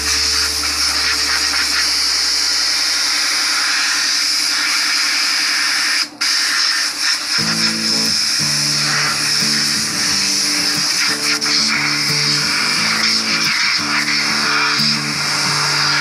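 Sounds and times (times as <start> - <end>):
compressed air blow gun hissing: 2.9 - 16.0.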